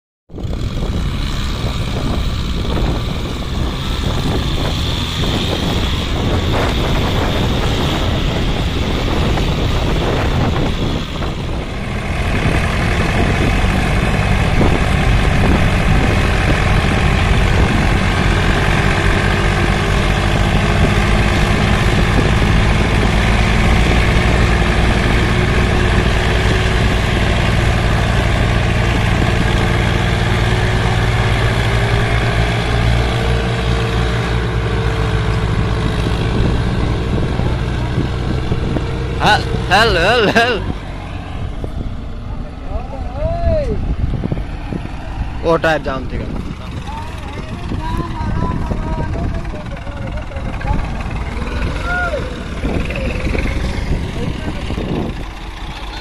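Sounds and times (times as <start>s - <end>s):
tractor diesel engines running: 0.3s - 56.0s.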